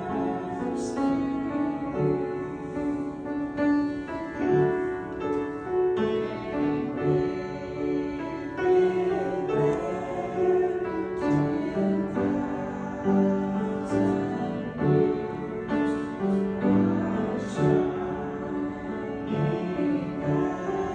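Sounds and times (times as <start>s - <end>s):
piano playing a slow hymn: 0.0s - 20.9s.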